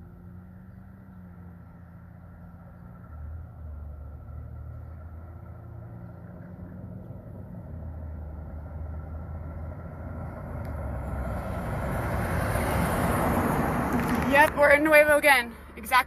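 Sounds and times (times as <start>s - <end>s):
approaching vehicle rushing: 0.0s - 16.0s
vehicle engine humming: 0.0s - 16.0s.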